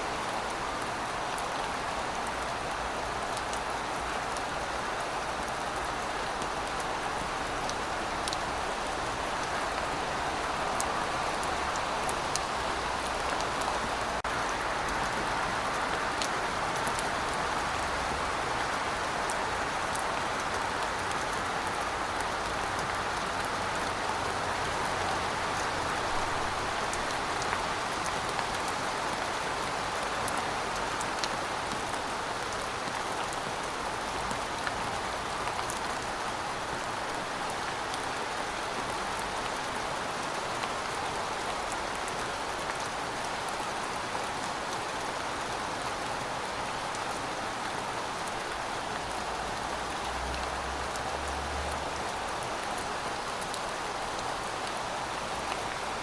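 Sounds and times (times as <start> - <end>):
raindrops dripping: 0.4 - 56.0.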